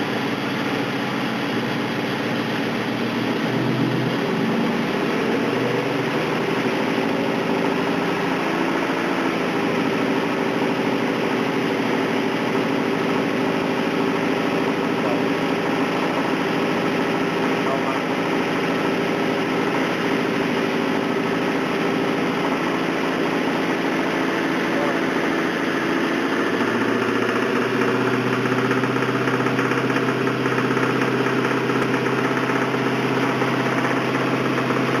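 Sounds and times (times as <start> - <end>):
car engine running with rod knock: 0.4 - 35.0.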